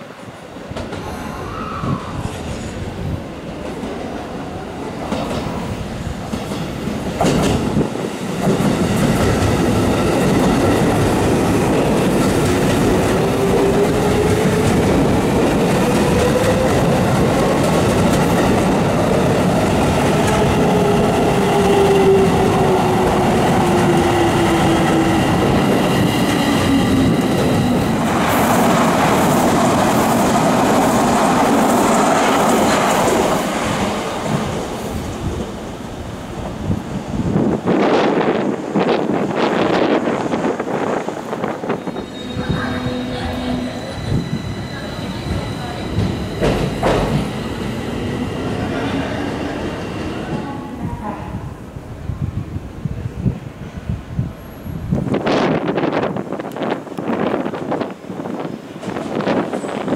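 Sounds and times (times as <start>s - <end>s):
train wheels on rail: 0.0s - 59.9s.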